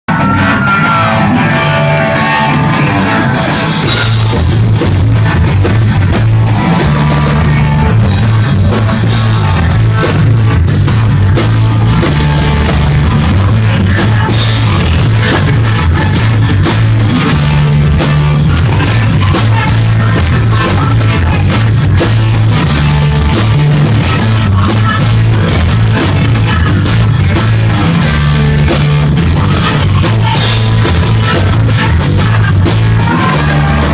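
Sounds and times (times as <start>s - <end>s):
bass guitar: 0.0s - 33.9s
electric guitar: 0.0s - 33.9s
drum kit: 0.1s - 33.9s.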